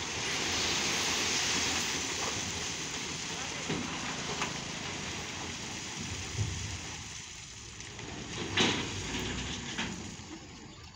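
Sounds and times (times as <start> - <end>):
rocks and gravel sliding off truck: 0.0 - 10.9.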